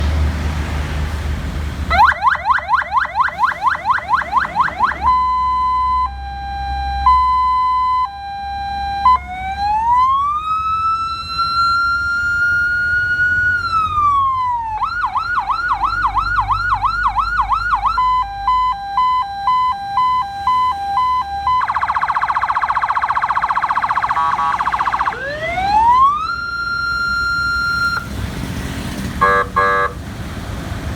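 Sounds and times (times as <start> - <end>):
electronic vehicle siren: 1.9 - 28.3, 29.2 - 30.0.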